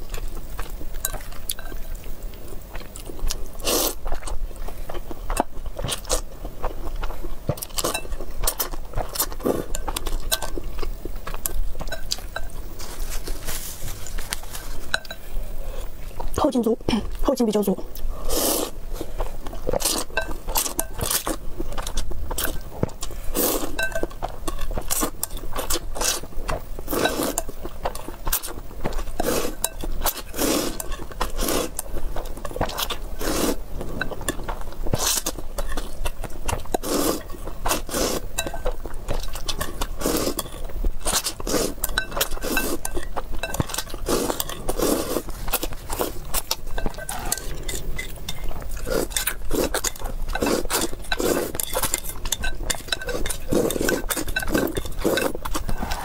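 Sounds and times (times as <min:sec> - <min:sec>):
slurping and chewing noodles: 0:00.0 - 0:16.4, 0:17.6 - 0:56.0
chopsticks scraping and clinking bowl: 0:00.9 - 0:02.0, 0:07.0 - 0:15.4, 0:19.5 - 0:26.3, 0:26.9 - 0:56.0.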